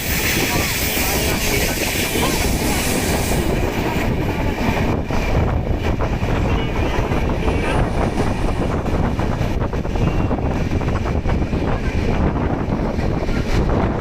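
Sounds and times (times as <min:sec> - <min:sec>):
train rumbling: 0:00.0 - 0:14.0
wind buffeting microphone: 0:00.0 - 0:14.0.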